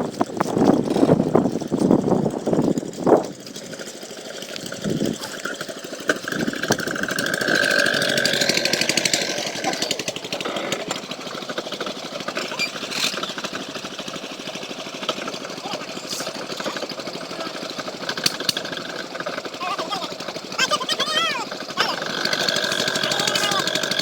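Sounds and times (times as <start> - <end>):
engine knocking: 0.0 - 24.0.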